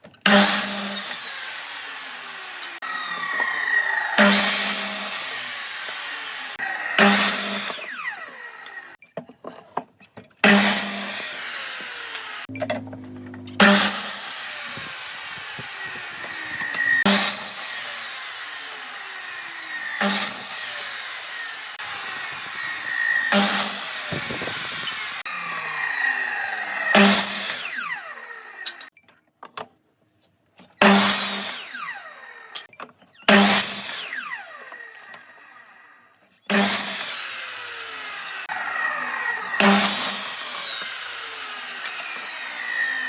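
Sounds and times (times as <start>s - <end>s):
power tools cutting wood: 0.0s - 9.0s, 10.4s - 28.9s, 30.8s - 43.0s.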